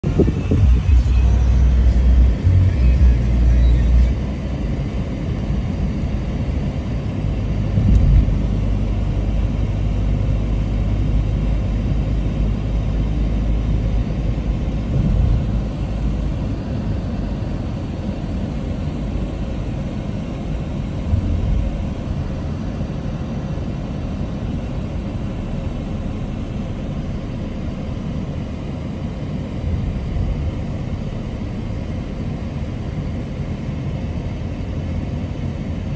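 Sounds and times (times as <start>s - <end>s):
road and engine rumble: 0.0s - 35.9s.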